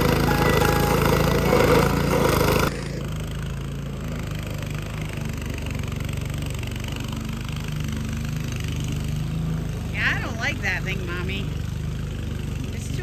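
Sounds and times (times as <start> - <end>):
engine running low: 0.0 - 13.0
loud machine noise: 0.0 - 13.0.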